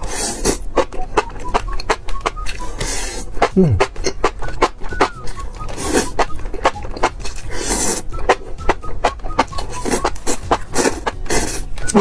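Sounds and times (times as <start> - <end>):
slurping noodles: 0.0 - 0.7, 2.6 - 11.8
background music: 0.0 - 12.0
wet chewing clicks: 0.0 - 12.0.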